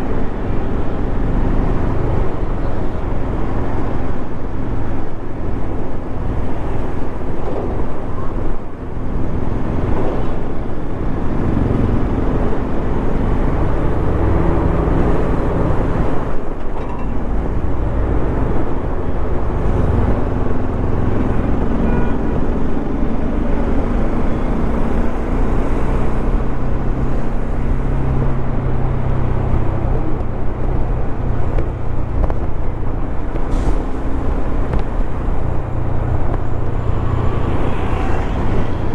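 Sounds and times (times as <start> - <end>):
road noise rushing: 0.0 - 38.9.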